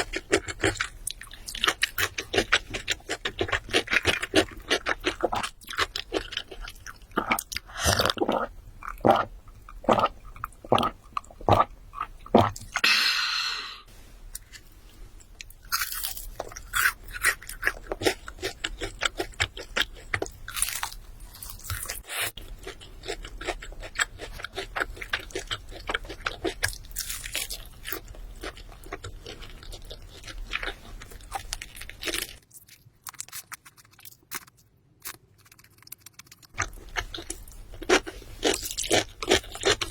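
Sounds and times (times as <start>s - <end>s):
crunching and chewing crispy food: 0.0s - 12.8s, 15.2s - 39.9s.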